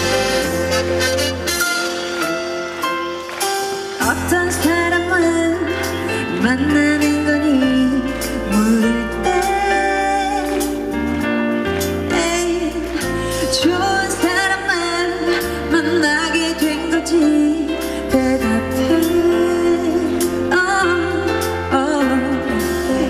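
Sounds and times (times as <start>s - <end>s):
pop song over sound system: 0.0s - 23.0s
woman singing: 4.0s - 11.2s, 11.8s - 23.0s.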